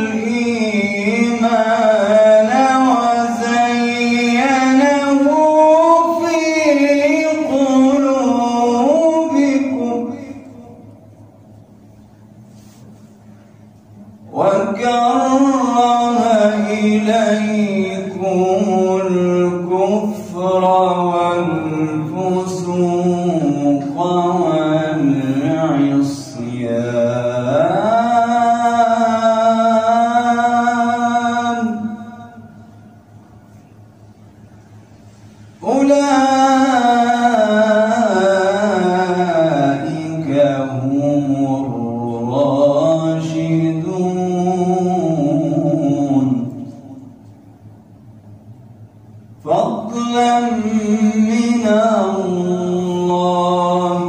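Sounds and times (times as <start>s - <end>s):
man chanting recitation: 0.0s - 11.0s, 14.3s - 32.9s, 35.1s - 47.3s, 49.4s - 54.0s.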